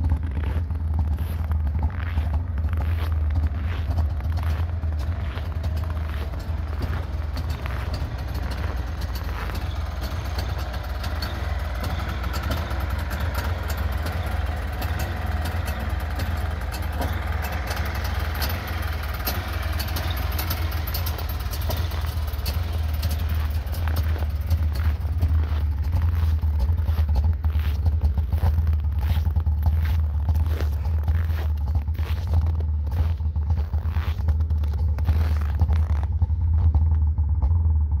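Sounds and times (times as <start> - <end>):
two-stroke engine idling: 0.0 - 38.0.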